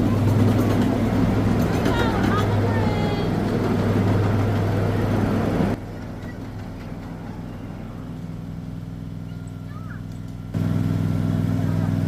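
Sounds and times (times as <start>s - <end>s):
small gasoline engine humming: 0.0s - 12.0s.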